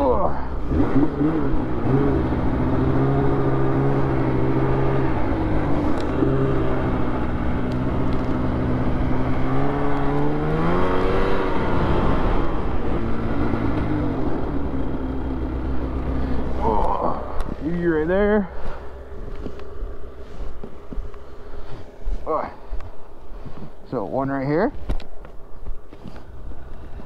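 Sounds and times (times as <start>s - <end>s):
snowmobile engine running: 0.0s - 22.9s.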